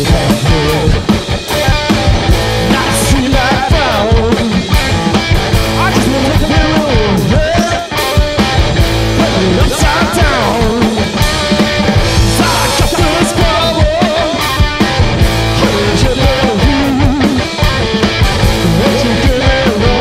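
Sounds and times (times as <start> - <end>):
electric guitar: 0.0 - 20.0
steady drum beat: 0.0 - 20.0.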